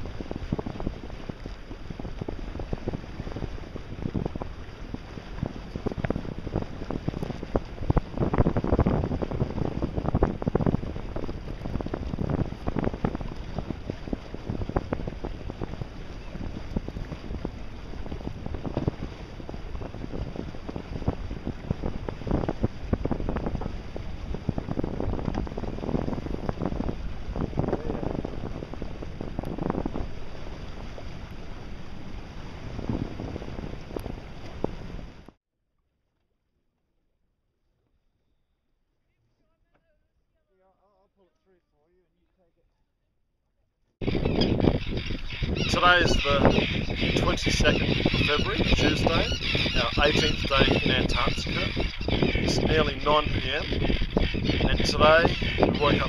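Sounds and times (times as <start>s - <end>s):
water slapping hull: 0.0s - 35.4s, 44.0s - 56.0s
wind buffeting microphone: 0.0s - 35.4s, 44.0s - 56.0s.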